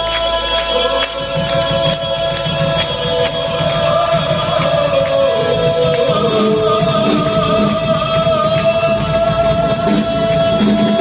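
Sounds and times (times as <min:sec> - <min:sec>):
drums: 0:00.0 - 0:11.0
man singing: 0:00.0 - 0:11.0.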